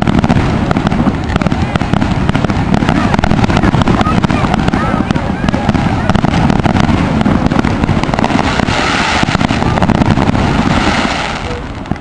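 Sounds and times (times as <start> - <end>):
fireworks crackling and popping: 0.0 - 12.0
fireworks hissing: 0.0 - 12.0.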